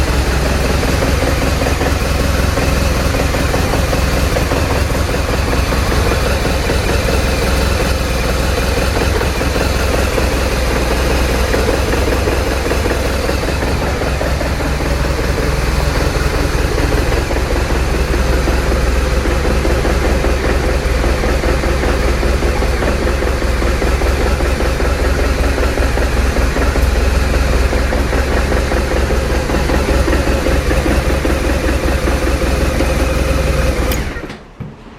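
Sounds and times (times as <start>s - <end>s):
motorcycle engine idling: 0.0s - 34.3s.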